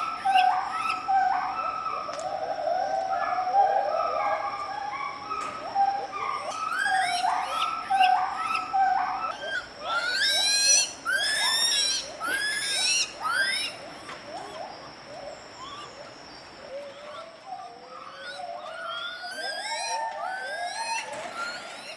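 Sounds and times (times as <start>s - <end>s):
gibbon hooting calls: 0.0s - 14.7s, 16.8s - 21.9s.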